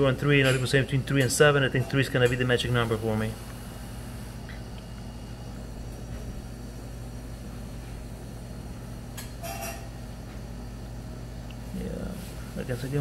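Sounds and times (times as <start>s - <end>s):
refrigerator compressor humming: 0.0s - 13.0s.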